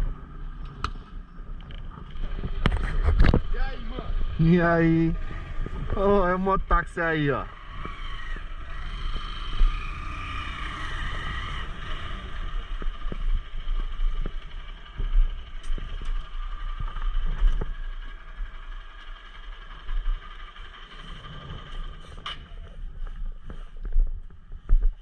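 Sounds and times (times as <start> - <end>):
wind rumbling on microphone: 0.0 - 18.8, 20.1 - 25.0
motorcycle engine drone: 0.0 - 25.0.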